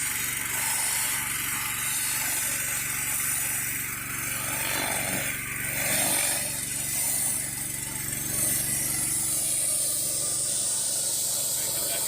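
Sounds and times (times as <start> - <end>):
pressure washer engine running: 0.0 - 12.0
water jet hissing on concrete: 0.0 - 12.0.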